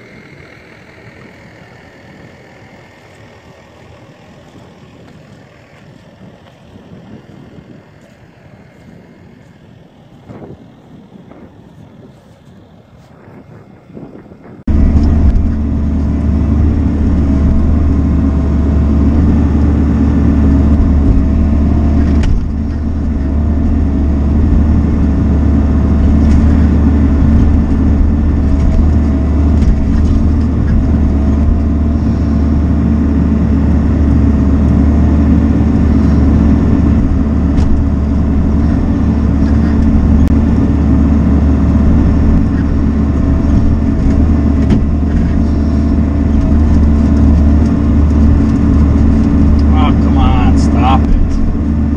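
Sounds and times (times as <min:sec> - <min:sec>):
hydraulic whine: 0:00.0 - 0:12.8, 0:14.0 - 0:51.9
excavator engine droning: 0:00.0 - 0:51.9.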